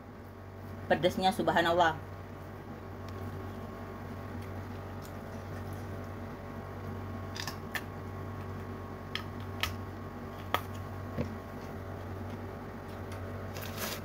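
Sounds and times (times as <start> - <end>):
low room tone hum: 0.0 - 14.0.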